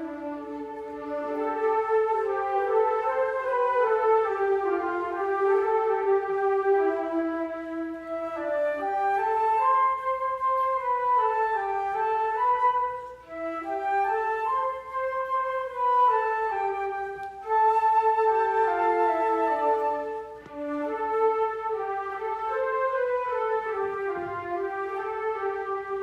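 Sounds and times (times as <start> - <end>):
flute ensemble playing slow lines: 0.0 - 26.0.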